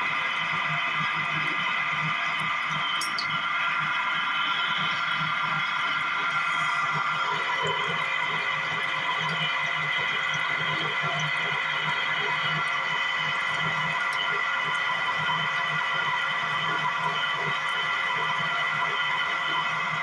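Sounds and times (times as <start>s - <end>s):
oil press machine whining: 0.0s - 20.0s.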